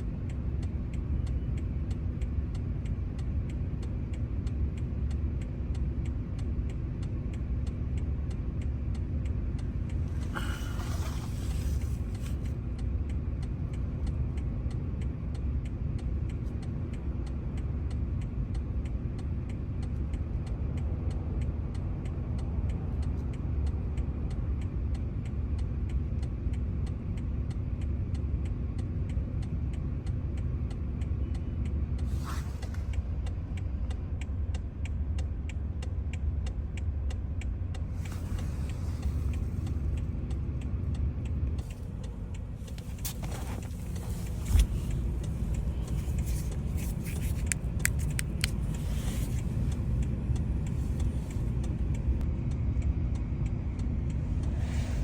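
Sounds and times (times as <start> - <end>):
engine rumble: 0.0 - 55.0.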